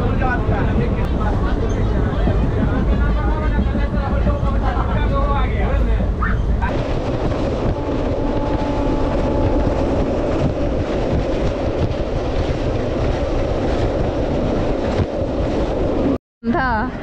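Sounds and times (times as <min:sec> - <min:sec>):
train wheels on rail: 0:00.0 - 0:16.2.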